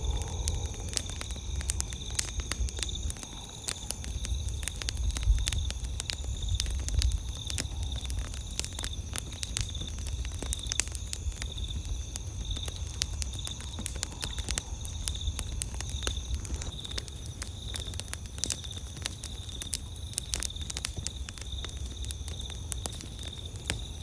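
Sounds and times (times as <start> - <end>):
campfire crackling and popping: 0.0 - 24.0
insect chirping: 0.0 - 24.0.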